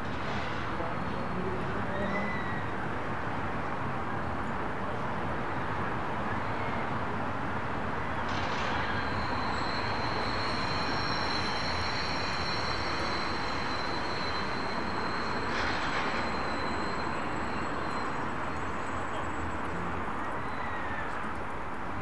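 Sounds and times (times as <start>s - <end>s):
train wheels squealing on rails: 0.0s - 4.5s, 5.2s - 21.6s
train rolling rush: 0.0s - 22.0s.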